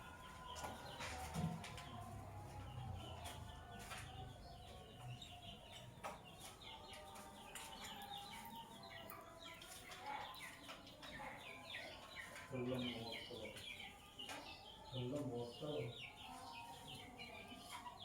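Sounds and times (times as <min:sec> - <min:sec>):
lovebirds chirping: 0:01.7 - 0:18.0.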